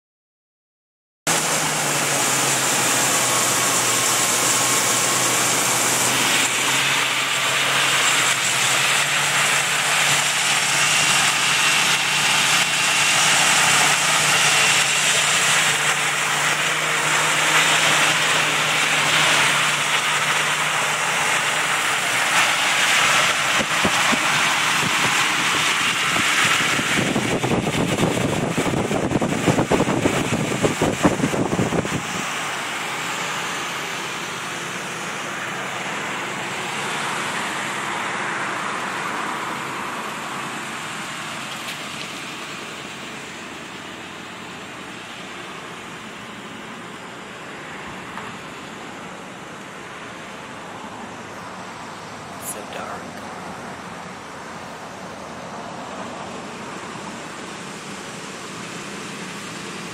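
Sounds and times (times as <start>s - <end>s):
car engine idling: 1.3s - 59.9s.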